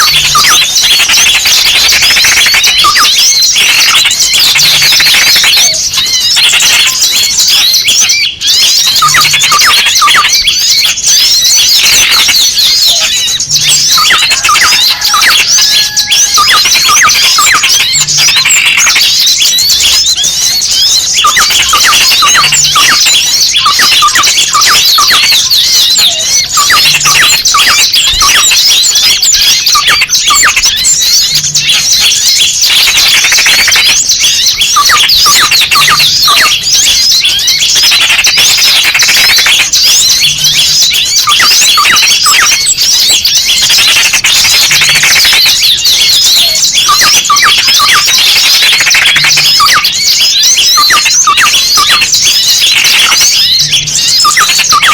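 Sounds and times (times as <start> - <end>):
small birds chirping agitatedly: 0.0 - 54.9.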